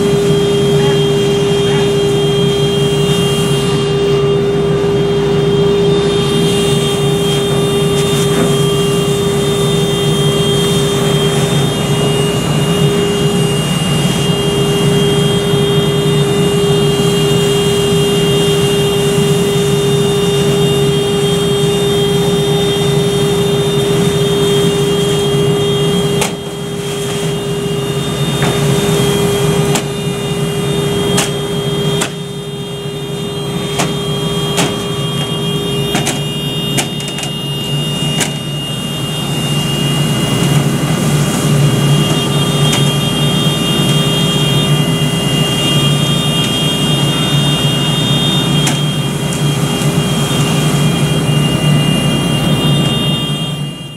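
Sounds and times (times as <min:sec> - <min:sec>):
fire engine running steadily: 0:00.0 - 0:53.9.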